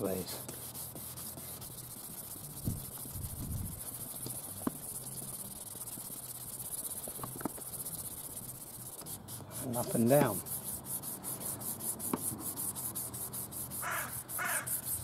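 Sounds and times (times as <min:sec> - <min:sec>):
polishing pad scrubbing plastic: 0:00.0 - 0:15.0.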